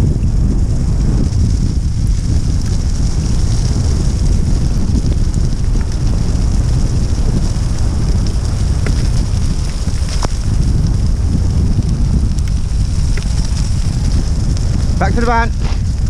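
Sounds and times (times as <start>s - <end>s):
wind buffeting microphone: 0.0s - 16.0s
tyres rolling on wet gravel: 0.3s - 16.0s.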